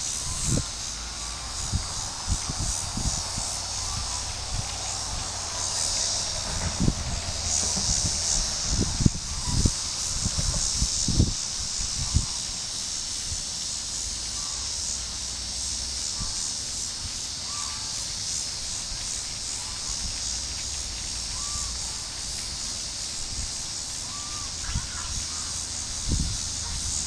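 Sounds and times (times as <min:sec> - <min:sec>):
high-pitched insect chorus hiss: 0:00.0 - 0:27.0.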